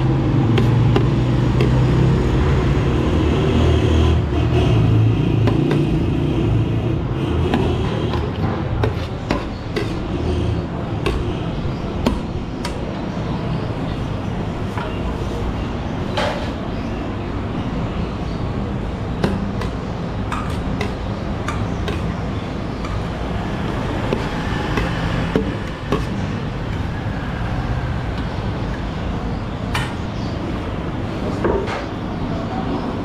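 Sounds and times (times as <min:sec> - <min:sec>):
street traffic rumble: 0:00.0 - 0:33.0.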